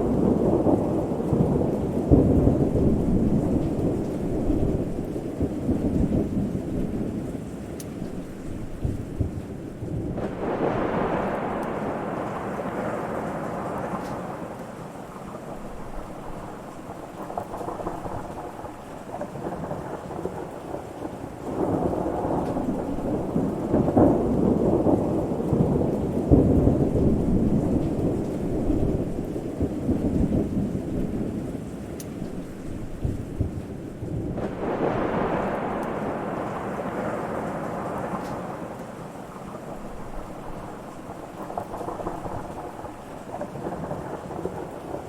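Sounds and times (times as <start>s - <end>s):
rain: 0.0s - 45.0s
rolling thunder: 0.0s - 45.0s.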